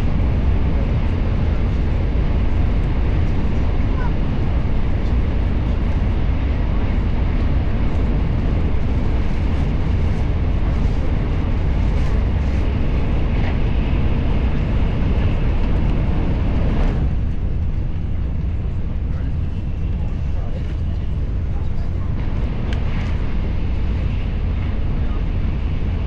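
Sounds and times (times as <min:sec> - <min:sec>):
moving vehicle rumble: 0:00.0 - 0:26.0.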